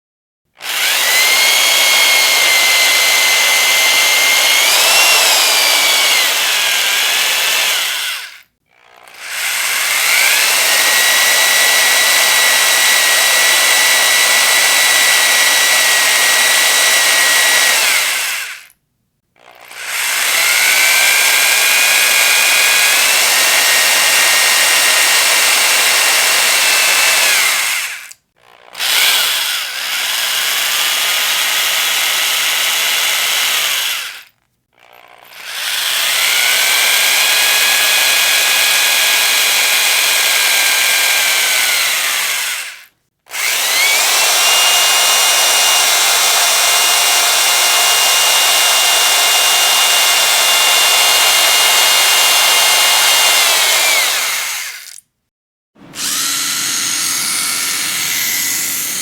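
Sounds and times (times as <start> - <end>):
electric drill whining: 0.6 - 18.8, 19.4 - 55.0, 55.8 - 59.0.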